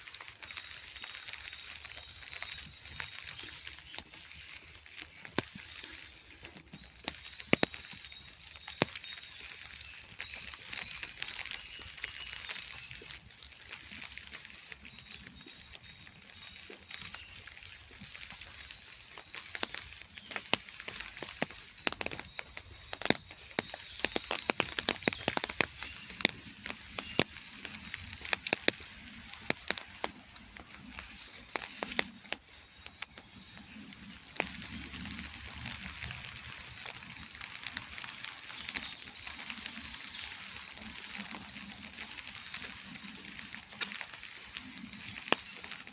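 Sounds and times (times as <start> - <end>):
rain falling: 0.0 - 45.9
raindrops tapping close by: 0.0 - 45.9.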